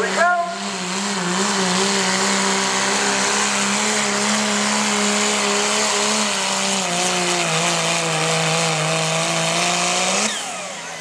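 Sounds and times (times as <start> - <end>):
diesel truck engine revving: 0.0 - 11.0.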